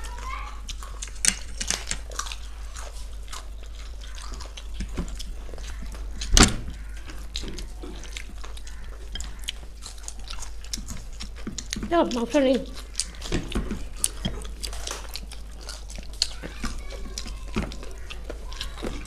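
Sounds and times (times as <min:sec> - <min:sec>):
wet chewing smacks: 0:00.0 - 0:19.0.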